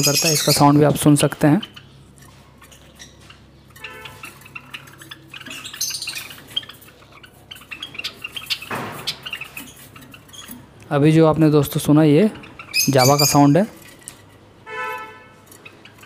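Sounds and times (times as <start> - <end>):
sparrows chirping softly: 0.0 - 16.0.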